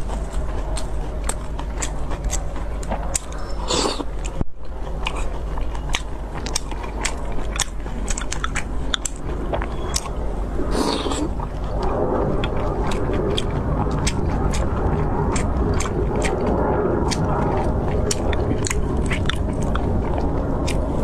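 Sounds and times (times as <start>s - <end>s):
crunchy clicks: 0.0s - 21.0s
person chewing and biting: 0.0s - 21.0s.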